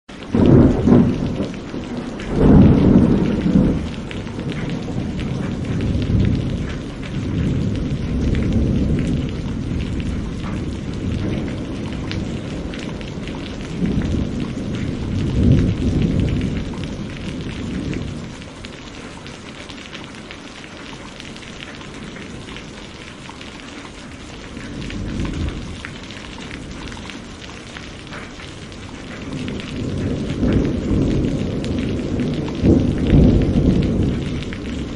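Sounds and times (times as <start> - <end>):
rain pattering: 0.1 - 34.9
rolling thunder: 0.2 - 18.8, 24.4 - 34.9.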